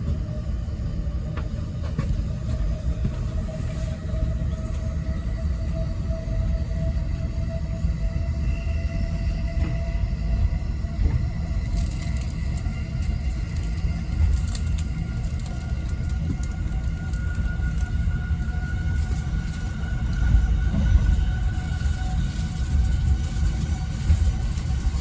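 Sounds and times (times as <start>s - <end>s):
thin whine of train: 0.0s - 25.0s
train wheels rumbling on rail: 0.0s - 25.0s.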